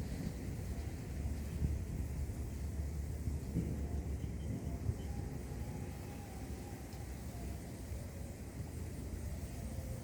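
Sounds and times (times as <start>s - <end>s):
even hiss: 0.0s - 10.0s.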